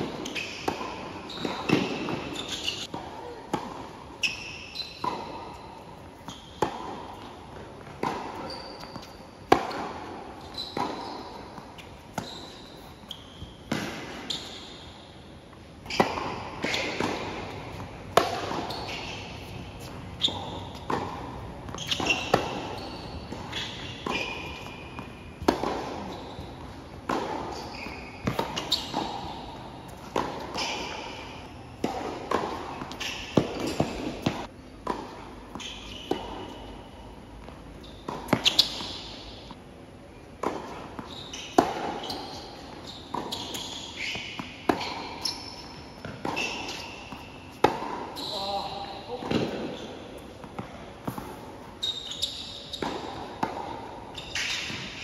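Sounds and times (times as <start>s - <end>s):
racquet striking tennis ball: 0.0s - 12.8s, 13.4s - 14.6s, 15.8s - 36.8s, 37.4s - 39.7s, 40.3s - 55.0s
ball bouncing on hard court: 0.0s - 14.6s, 15.5s - 36.7s, 37.4s - 39.6s, 40.4s - 55.0s
sneakers squeaking on court: 0.0s - 55.0s.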